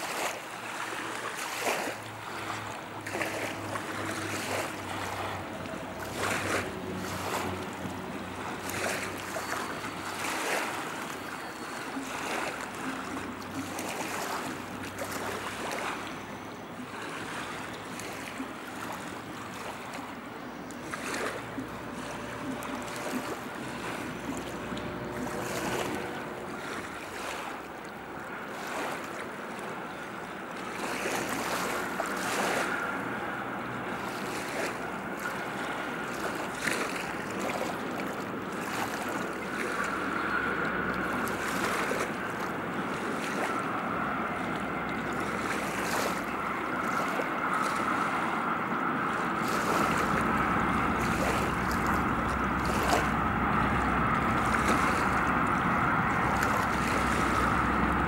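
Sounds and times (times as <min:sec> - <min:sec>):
river water lapping and splashing: 0:00.0 - 0:58.0
wind: 0:00.0 - 0:58.0.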